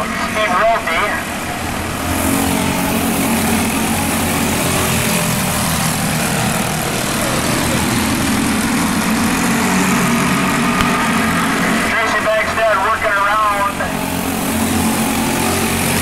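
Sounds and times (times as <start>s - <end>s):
go-kart engines racing: 0.0s - 16.0s.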